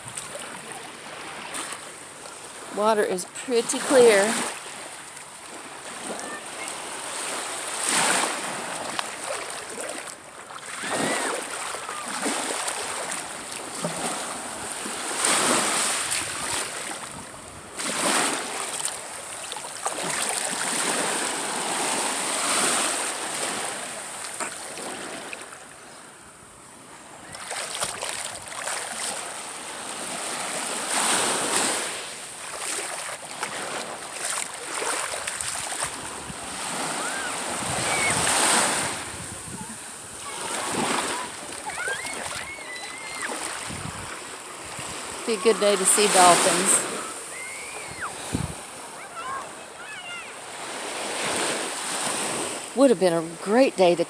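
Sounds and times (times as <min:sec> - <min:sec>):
small waves washing onto beach: 0:00.0 - 0:54.0.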